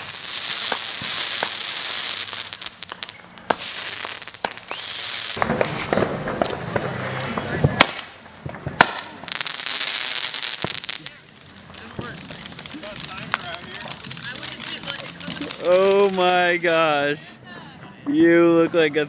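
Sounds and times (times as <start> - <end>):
fireworks sharp pops: 0.0 - 16.9
fireworks crackling hiss: 0.0 - 19.0.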